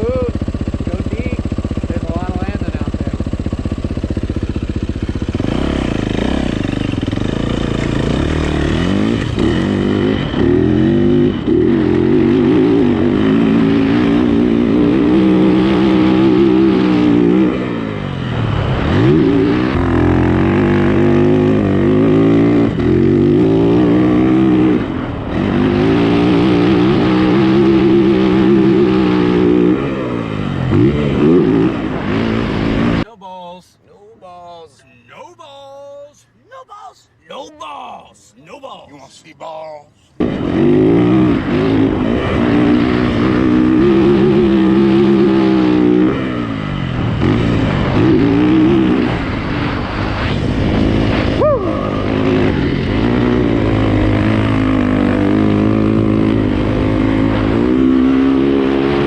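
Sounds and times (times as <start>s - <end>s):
dirt bike engine revving: 0.0s - 33.1s, 40.2s - 59.0s.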